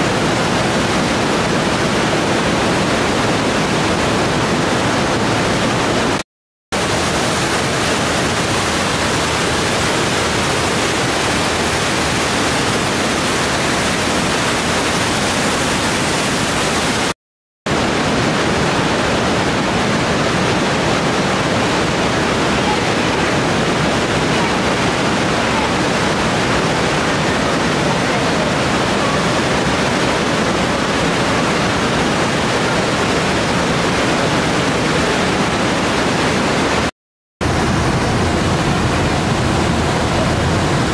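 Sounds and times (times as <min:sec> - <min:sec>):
waterfall rushing: 0:00.0 - 0:06.2, 0:06.8 - 0:40.9.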